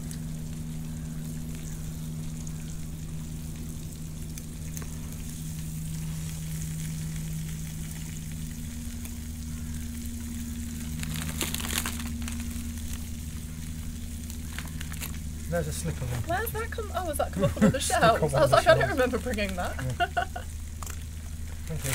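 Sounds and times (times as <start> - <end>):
low hum: 0.0 - 21.9
scallops sizzling on embers: 0.0 - 21.9.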